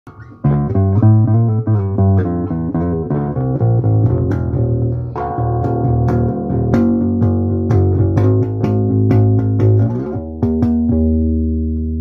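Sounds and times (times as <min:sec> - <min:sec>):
electric bass guitar plucked notes: 0:00.1 - 0:12.0.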